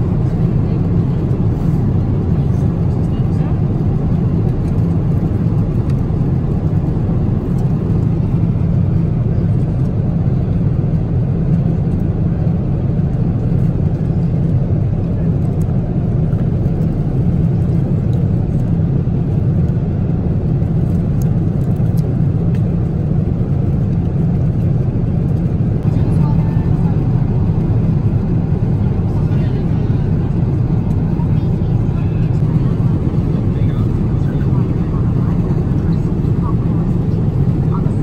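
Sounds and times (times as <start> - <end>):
airliner cabin engine noise: 0.0 - 38.0.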